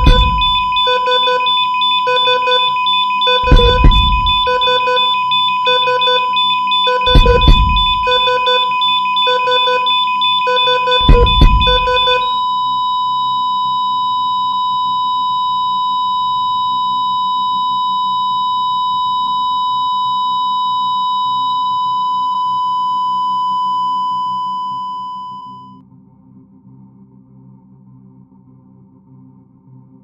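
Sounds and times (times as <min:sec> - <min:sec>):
heart monitor flatline beep: 0:00.0 - 0:25.8.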